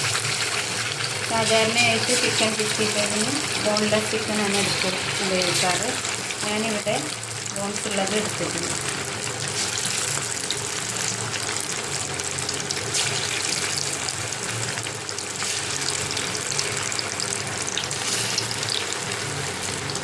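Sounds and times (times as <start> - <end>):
chicken deep-frying in oil: 0.0 - 20.0.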